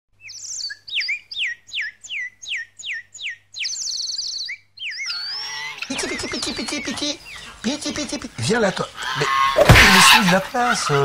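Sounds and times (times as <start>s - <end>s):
songbird singing: 0.1s - 11.0s.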